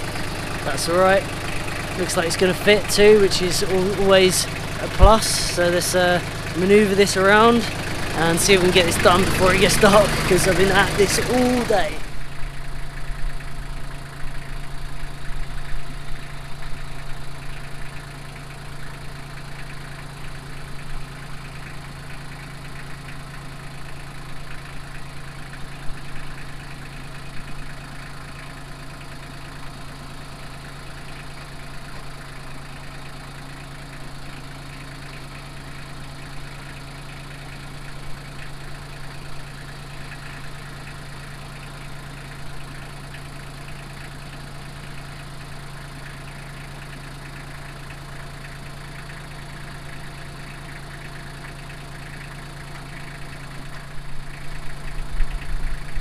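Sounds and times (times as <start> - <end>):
tractor engine running steadily: 0.0 - 56.0.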